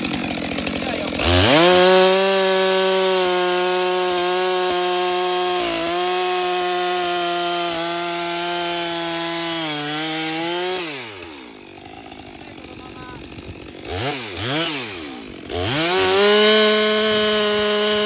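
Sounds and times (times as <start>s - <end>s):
chainsaw cutting log: 0.0s - 18.0s.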